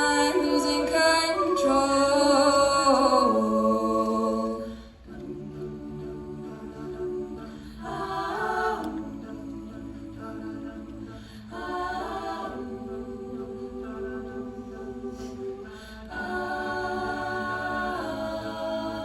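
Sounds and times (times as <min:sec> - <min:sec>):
wordless vocal chords in harmony: 0:00.0 - 0:19.0.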